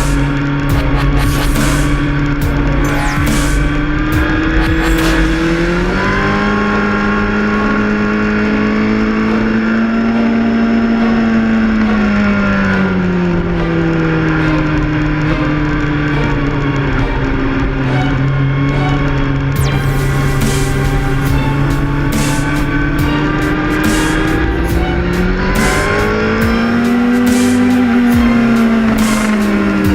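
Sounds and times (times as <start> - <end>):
engine running at high revs: 0.0 - 29.9.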